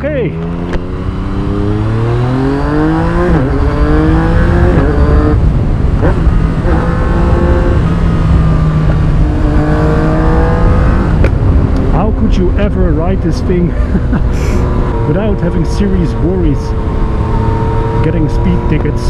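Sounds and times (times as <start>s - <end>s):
low wind rush: 0.0s - 19.0s
motorcycle engine accelerating: 0.0s - 19.0s.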